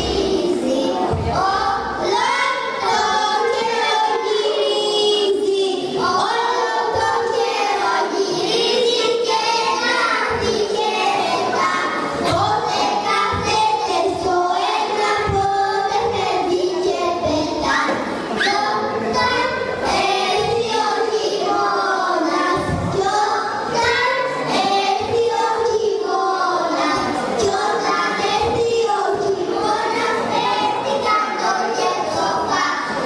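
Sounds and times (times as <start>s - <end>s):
girls singing together: 0.0s - 33.0s.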